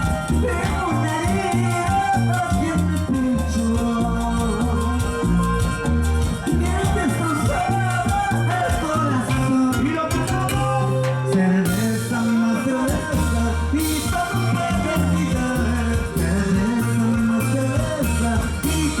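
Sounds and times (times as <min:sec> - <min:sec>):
latin dance band playing: 0:00.0 - 0:19.0
person singing: 0:00.0 - 0:19.0.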